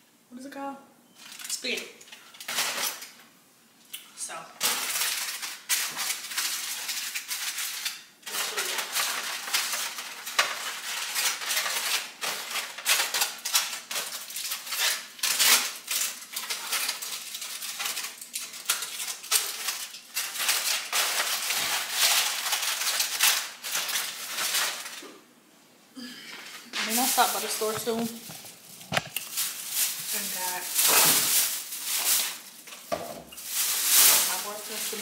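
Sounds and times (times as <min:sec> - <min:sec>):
foil crinkling: 0:01.2 - 0:03.3, 0:04.6 - 0:25.2, 0:26.6 - 0:35.0.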